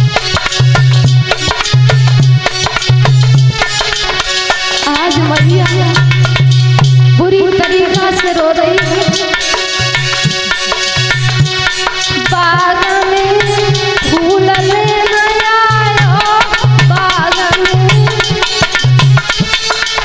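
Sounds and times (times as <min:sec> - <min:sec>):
hand drum beating: 0:00.0 - 0:20.0.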